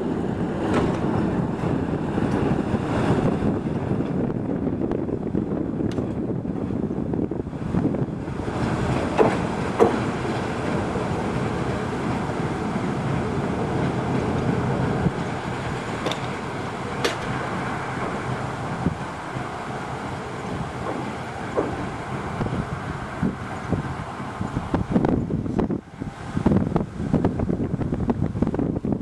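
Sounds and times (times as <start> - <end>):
diesel locomotive engine running: 0.0 - 28.8
wind buffeting microphone: 0.0 - 29.0.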